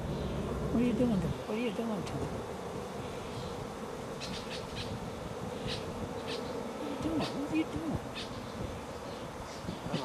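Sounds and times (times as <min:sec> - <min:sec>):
flying insect buzzing: 0:00.0 - 0:10.0.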